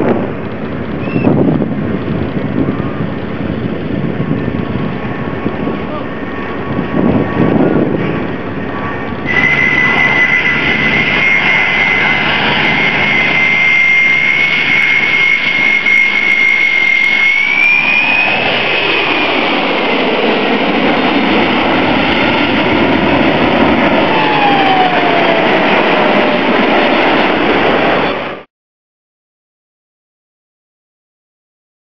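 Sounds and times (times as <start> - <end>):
jet engines with high whine: 0.0 - 28.5.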